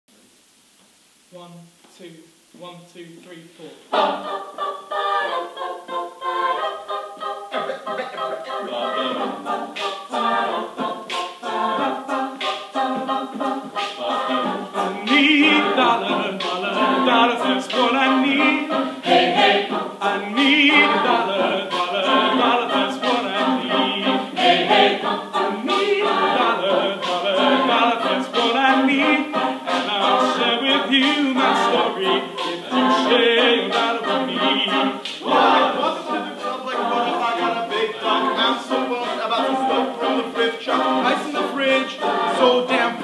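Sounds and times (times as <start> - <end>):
a cappella group singing: 3.2 - 43.0.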